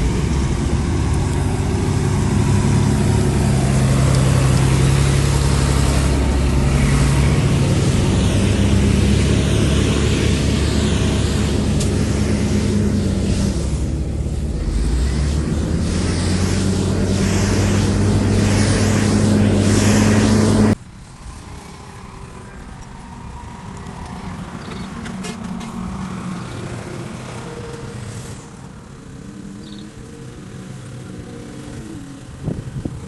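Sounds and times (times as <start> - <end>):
distant engine: 0.0 - 33.0
heavy machinery diesel engine: 0.0 - 33.0.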